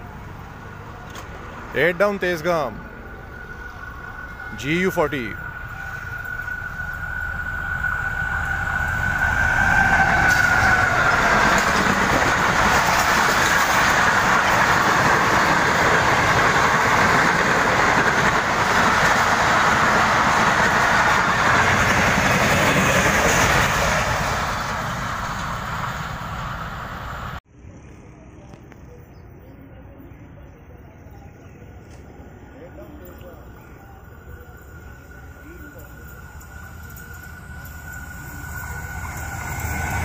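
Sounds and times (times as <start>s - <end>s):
train wheels rushing on rails: 0.0s - 27.4s, 32.0s - 40.0s.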